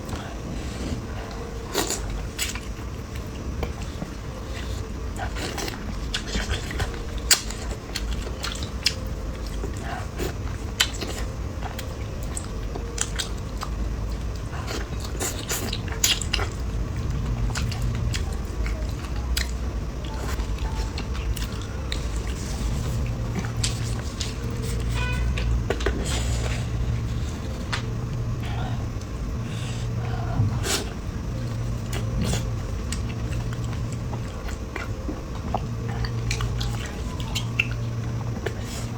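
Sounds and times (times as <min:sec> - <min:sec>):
chewing and biting: 0:00.0 - 0:38.9.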